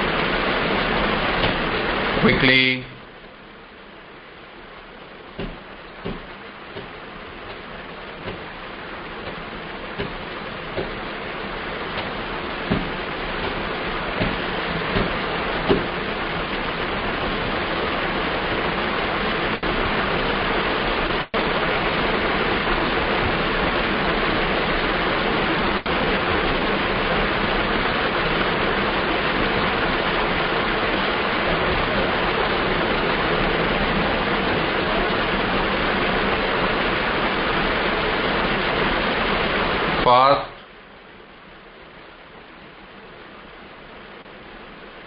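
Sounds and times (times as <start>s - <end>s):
loud rushing hiss: 0.0s - 40.6s.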